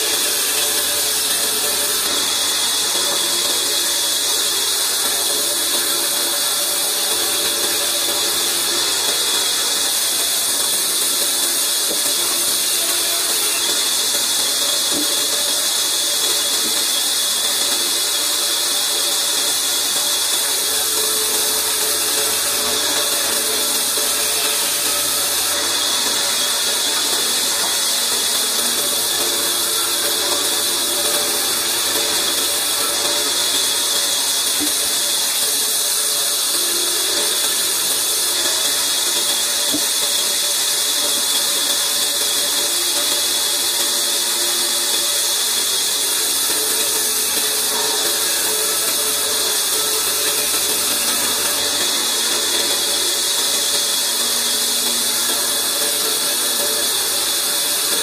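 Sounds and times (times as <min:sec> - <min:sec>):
band saw whine and hiss: 0:00.0 - 0:58.0.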